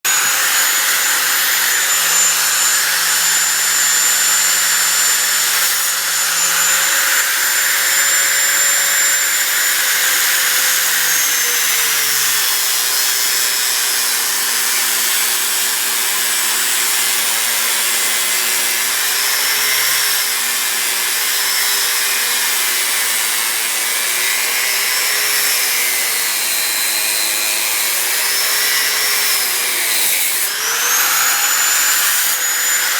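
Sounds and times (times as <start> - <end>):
angle grinder cutting metal: 0.0 - 32.9.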